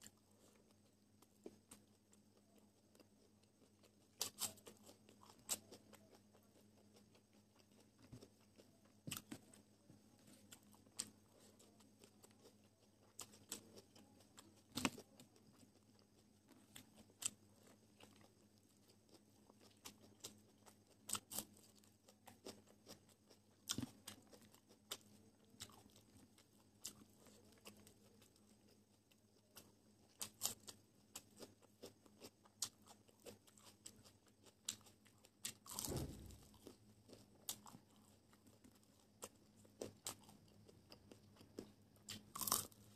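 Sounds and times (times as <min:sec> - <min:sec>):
person chewing and biting chicken: 0:01.4 - 0:09.7, 0:10.4 - 0:42.9.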